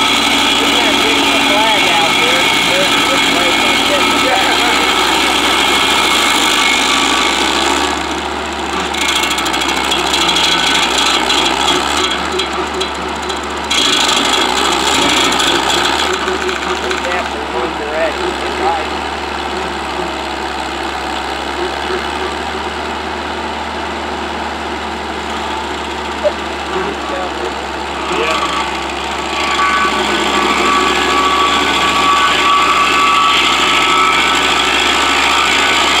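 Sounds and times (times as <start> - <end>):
high mechanical whine: 0.0 - 36.0
machine running: 0.0 - 36.0
stump grinder grinding wood: 0.0 - 36.0.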